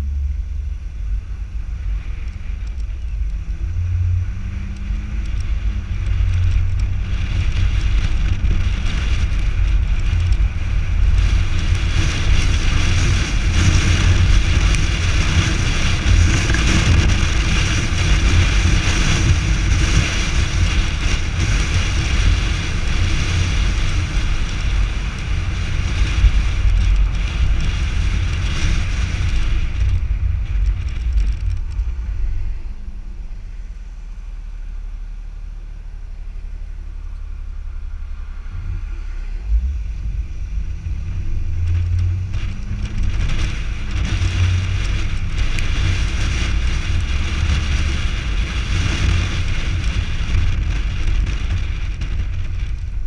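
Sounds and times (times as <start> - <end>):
wind buffeting microphone: 0.0 - 33.9, 38.0 - 53.0
tyre and road noise: 0.0 - 53.0.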